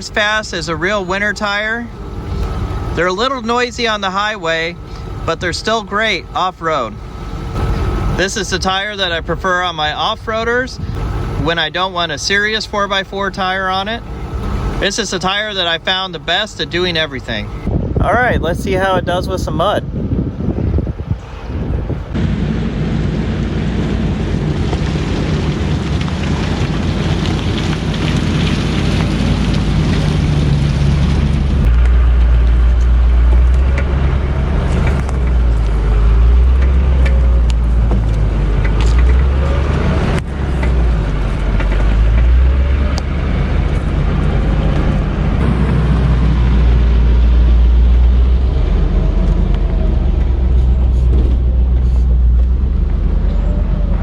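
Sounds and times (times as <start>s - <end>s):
vehicle engine driving in mud: 0.0s - 19.0s, 19.6s - 54.0s
deep low rumble: 1.8s - 54.0s.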